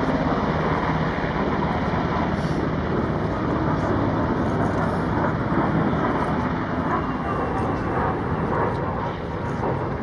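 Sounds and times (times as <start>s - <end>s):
helicopter engine noise: 0.0s - 10.0s
helicopter rotor chopping: 0.0s - 10.0s.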